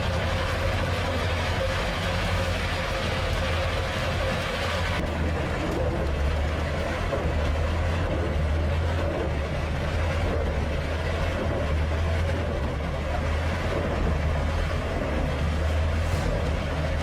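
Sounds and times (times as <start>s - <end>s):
engine low drone: 0.0s - 17.0s.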